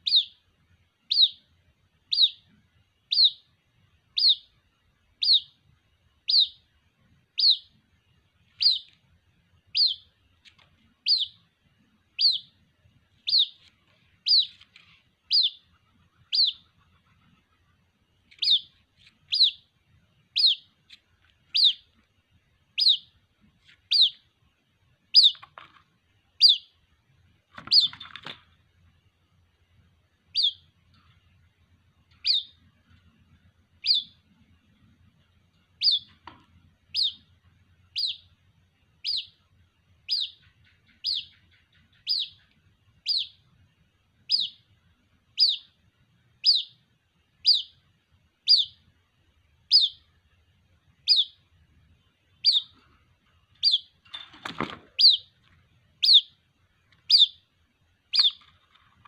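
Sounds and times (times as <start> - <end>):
bird chick peeping: 0.0 - 59.0.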